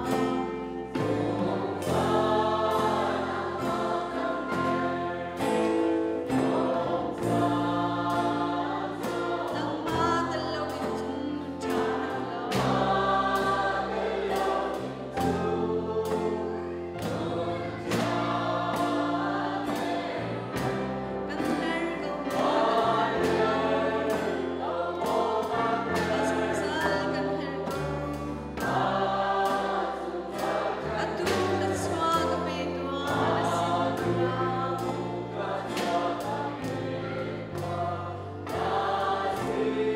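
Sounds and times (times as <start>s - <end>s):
group singing worship song: 0.0s - 39.9s.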